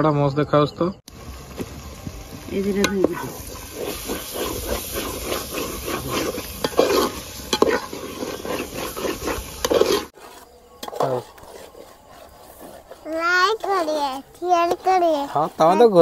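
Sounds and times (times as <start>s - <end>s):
masala sizzling: 1.1s - 16.0s
metal spatula scraping metal pot: 2.7s - 16.0s.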